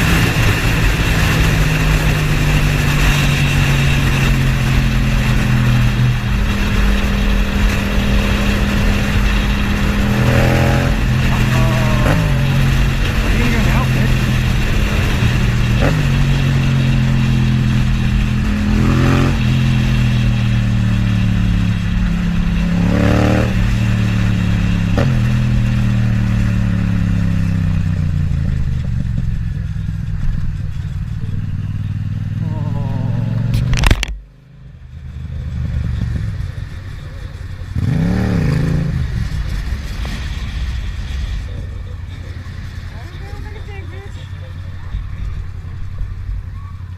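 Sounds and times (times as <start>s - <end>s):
engine rev rising and falling: 0.0s - 27.5s, 32.3s - 34.1s, 35.1s - 46.4s
motorcycle engine running: 0.0s - 46.9s.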